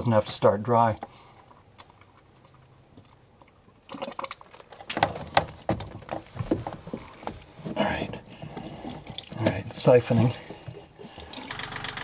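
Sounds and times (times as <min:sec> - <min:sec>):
hands handling hose and fittings: 0:00.0 - 0:11.5.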